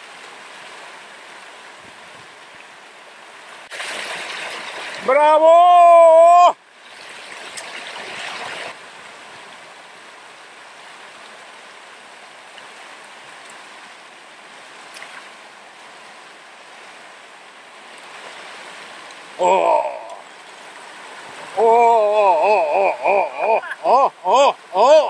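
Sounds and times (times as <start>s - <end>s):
river rapids rushing over stones: 2.7s - 25.0s.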